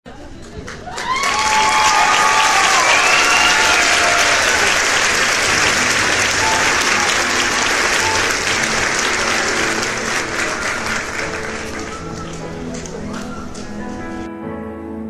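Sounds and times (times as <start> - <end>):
audience applause: 0.4 - 14.3.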